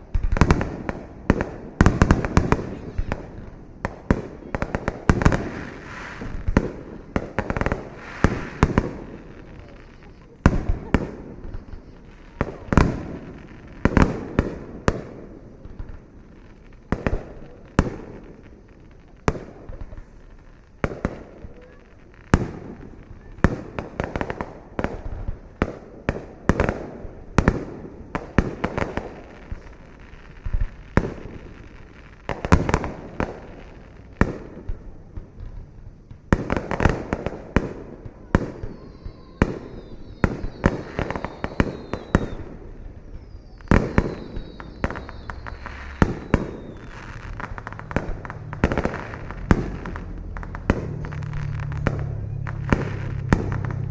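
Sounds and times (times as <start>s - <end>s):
firework whistle: 0.0s - 16.0s, 19.3s - 53.9s
fireworks bangs and crackle: 0.0s - 53.9s.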